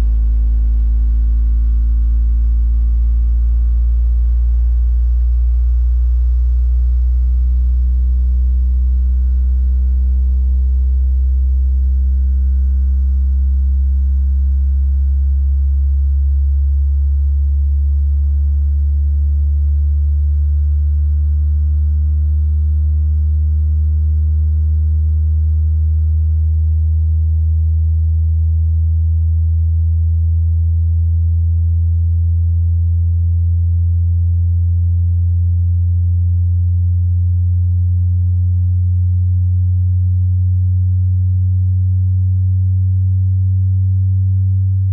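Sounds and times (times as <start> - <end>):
subwoofer deep rising test tone: 0.0 - 44.9.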